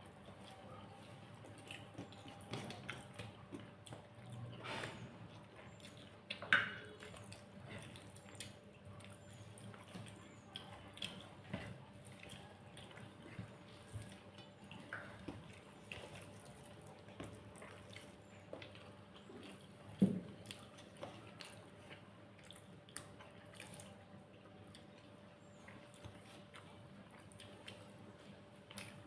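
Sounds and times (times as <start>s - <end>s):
wet chewing: 0.0s - 29.0s.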